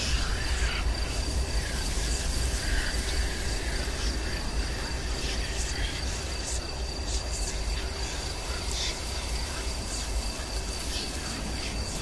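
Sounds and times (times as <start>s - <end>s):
faint wavering whistles: 0.0s - 12.0s
high insect-like trill: 0.0s - 12.0s.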